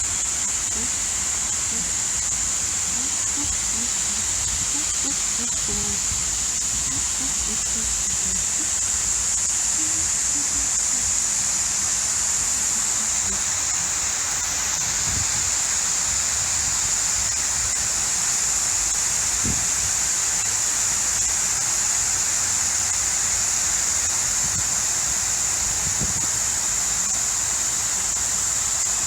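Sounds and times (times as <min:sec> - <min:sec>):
fountain water splashing: 0:00.0 - 0:29.0.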